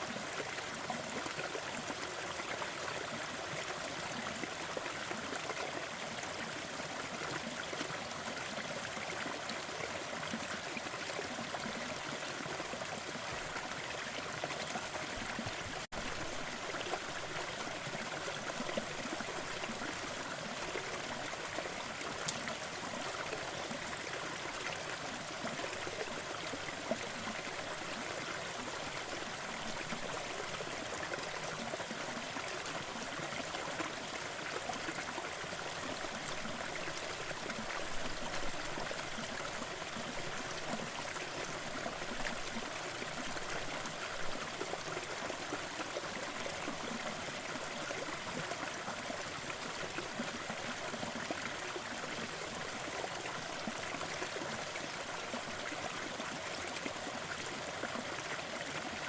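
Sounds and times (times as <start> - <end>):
stream trickling and gurgling: 0.0 - 59.0.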